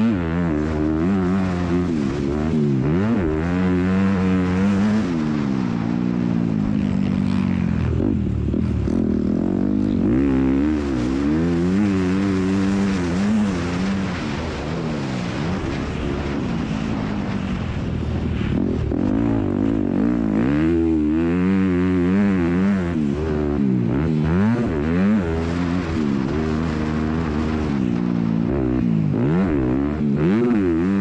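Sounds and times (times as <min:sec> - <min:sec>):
motocross bike engine revving: 0:00.0 - 0:17.8, 0:18.4 - 0:31.0.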